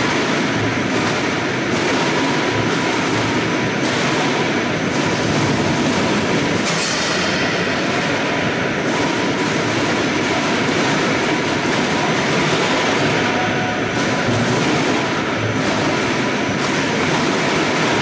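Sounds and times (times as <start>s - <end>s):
machinery running: 0.0s - 18.0s.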